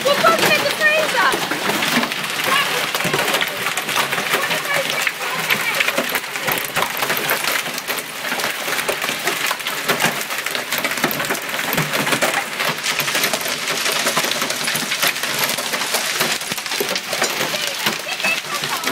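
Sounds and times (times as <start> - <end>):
hail clattering on ground: 0.0 - 18.9.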